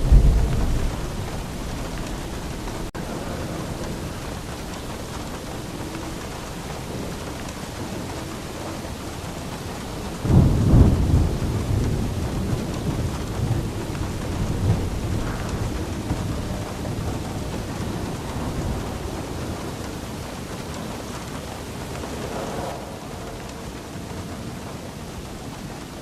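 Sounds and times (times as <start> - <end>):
rain falling: 0.0 - 26.0
thunder rumble: 0.0 - 26.0.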